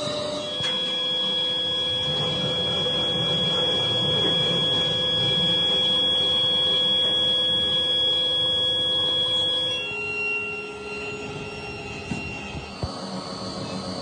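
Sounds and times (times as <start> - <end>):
high machinery whine: 0.0 - 14.0
low machinery rumble: 0.0 - 14.0.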